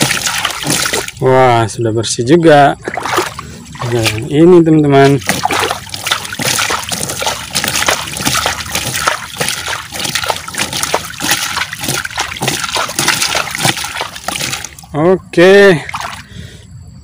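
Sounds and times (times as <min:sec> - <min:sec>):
water splashing on plastic toy: 0:00.0 - 0:01.2, 0:02.8 - 0:14.9, 0:15.8 - 0:16.3
water splashing into shallow water: 0:00.0 - 0:01.6, 0:02.8 - 0:16.4.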